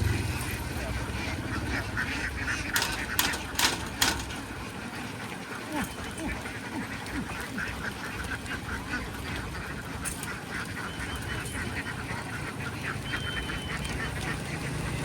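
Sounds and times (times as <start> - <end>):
flock of ducks quacking: 0.0 - 15.0.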